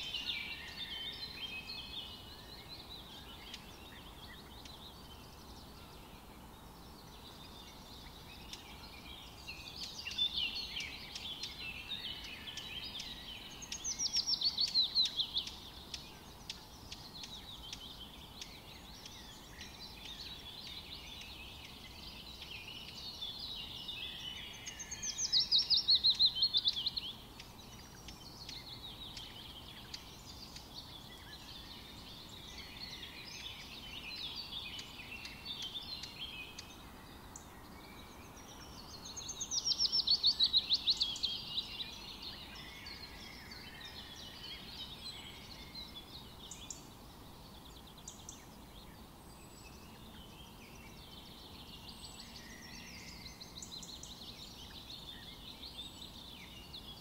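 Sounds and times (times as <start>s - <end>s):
bird song with descending notes: 0.0s - 57.0s
quiet bird chirps: 0.0s - 57.0s.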